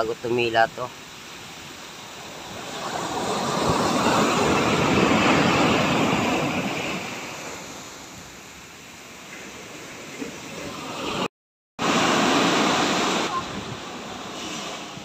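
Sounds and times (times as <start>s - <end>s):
surf background hiss: 0.0s - 15.0s
ocean wave breaking: 0.8s - 15.0s.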